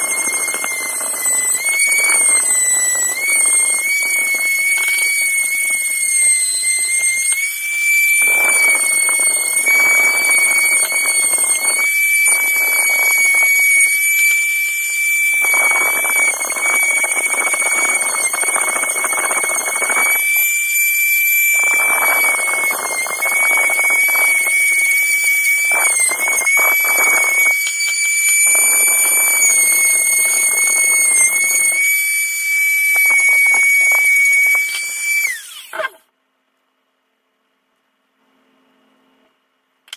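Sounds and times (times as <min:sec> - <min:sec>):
rotary tool whining: 0:00.0 - 0:36.0.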